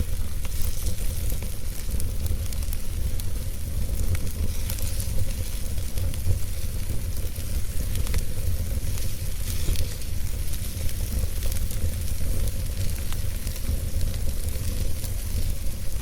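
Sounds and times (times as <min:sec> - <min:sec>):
steady low rumble: 0:00.0 - 0:16.0
wood fire hissing and crackling: 0:00.0 - 0:16.0.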